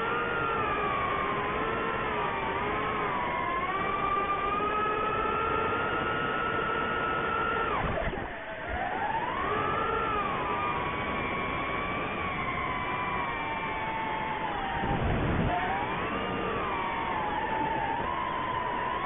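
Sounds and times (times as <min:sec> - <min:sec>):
quadcopter propellers whining: 0:00.0 - 0:19.0.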